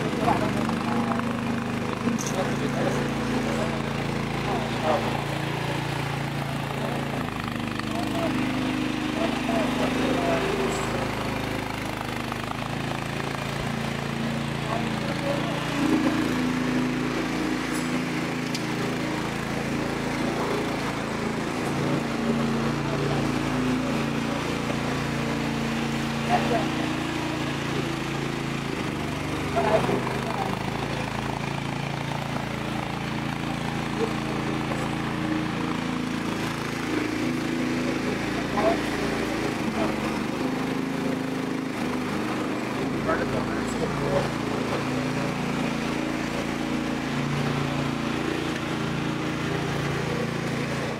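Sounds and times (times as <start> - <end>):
small loader engine running: 0.0 - 50.9.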